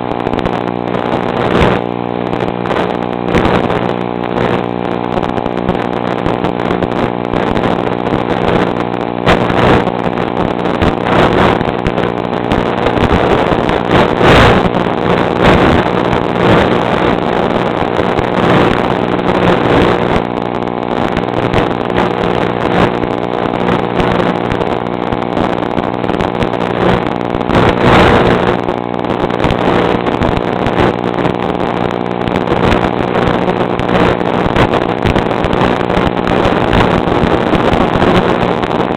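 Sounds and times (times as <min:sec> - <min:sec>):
motor running steadily: 0:00.0 - 0:38.9
wind noise on microphone: 0:00.0 - 0:38.9.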